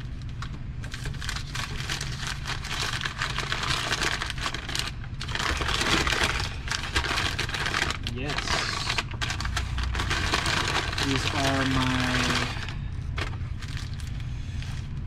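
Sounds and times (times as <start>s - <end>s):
plastic packaging crinkling: 0.0s - 15.0s
steady low hum: 0.0s - 15.0s.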